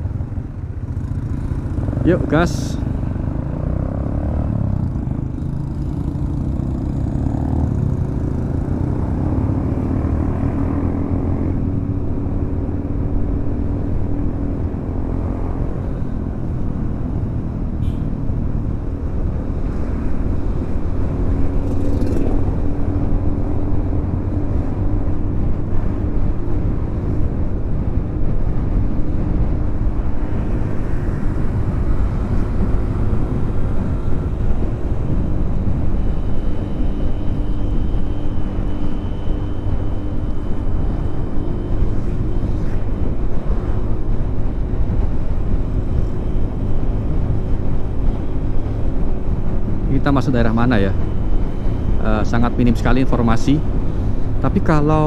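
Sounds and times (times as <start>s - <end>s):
motorcycle engine running: 0.0s - 15.4s, 20.6s - 55.0s
road and wind noise: 0.0s - 55.0s.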